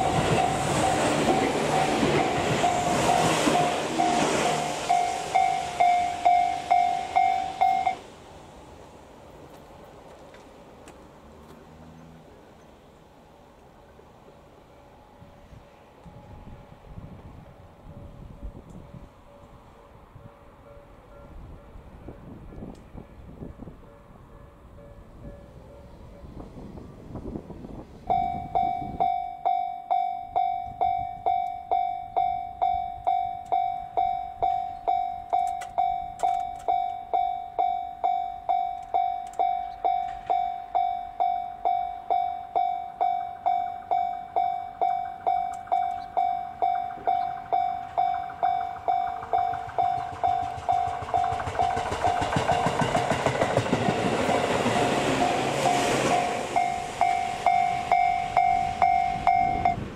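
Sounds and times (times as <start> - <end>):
level-crossing warning bell ringing: 0.0 - 8.1, 14.6 - 22.4, 23.0 - 26.6, 27.2 - 59.9
electric train passing: 0.0 - 59.9.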